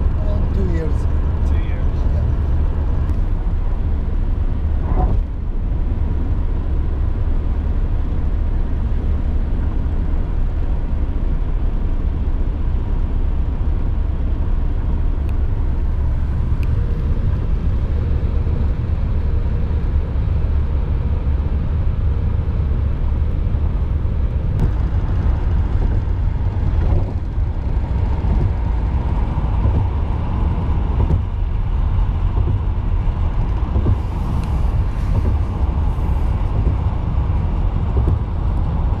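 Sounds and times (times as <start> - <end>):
car interior road rumble: 0.0 - 39.0.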